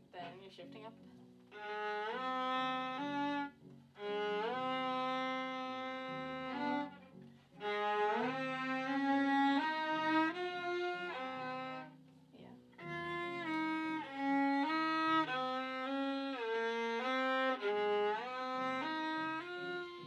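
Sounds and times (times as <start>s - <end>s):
bowed violins playing slowly: 1.5s - 12.1s, 12.8s - 20.0s.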